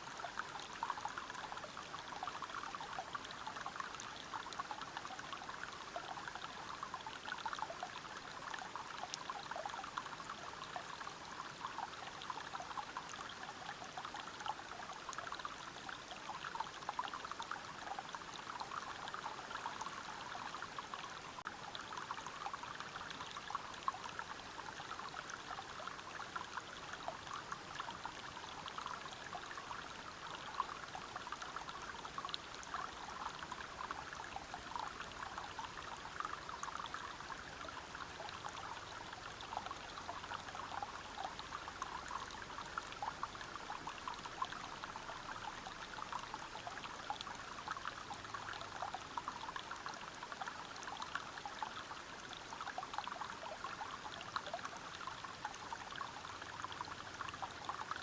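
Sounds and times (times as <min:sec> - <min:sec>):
river water over rocks: 0:00.0 - 0:58.0.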